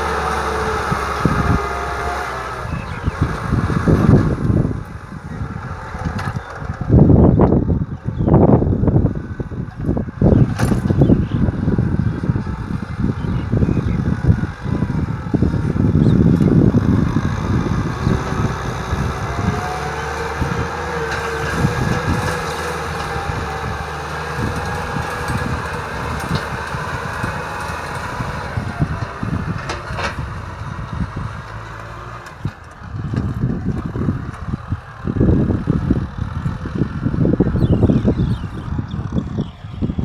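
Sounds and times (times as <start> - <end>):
tractor diesel engine droning: 0.0 - 40.0.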